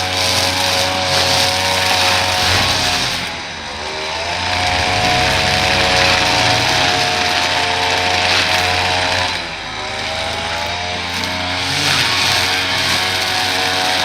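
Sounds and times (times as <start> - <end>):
small gas engine running: 1.8 - 14.0.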